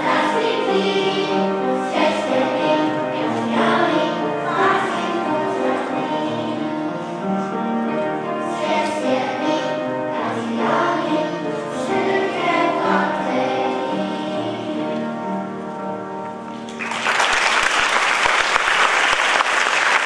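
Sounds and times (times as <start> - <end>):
children's choir singing: 0.0 - 16.4.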